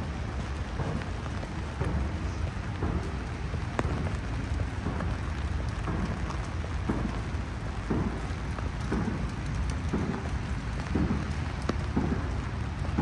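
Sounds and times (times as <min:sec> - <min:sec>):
rain hissing on wet pavement: 0:00.0 - 0:13.0
splashing footsteps: 0:00.0 - 0:13.0
water drips ticking: 0:00.0 - 0:13.0.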